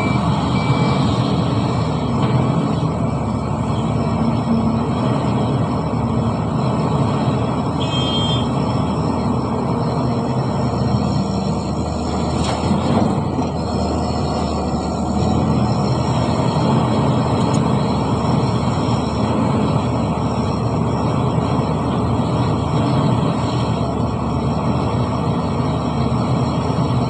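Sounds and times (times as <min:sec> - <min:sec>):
diesel machinery engine running: 0:00.0 - 0:27.0.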